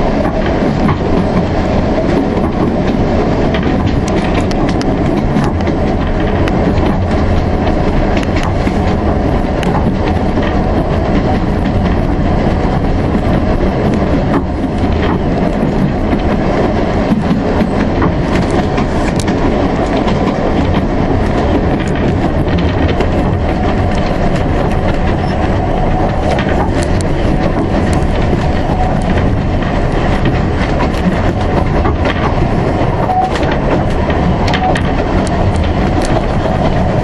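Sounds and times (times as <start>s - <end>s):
railway carriage rumbling and rattling: 0.0s - 37.0s
wheel clicks over rail joints: 0.0s - 37.0s.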